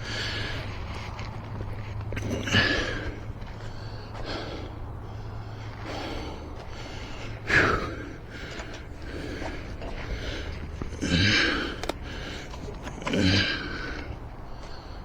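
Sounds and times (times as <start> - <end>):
steady low hum: 0.0 - 15.0
person breathing: 2.2 - 15.0.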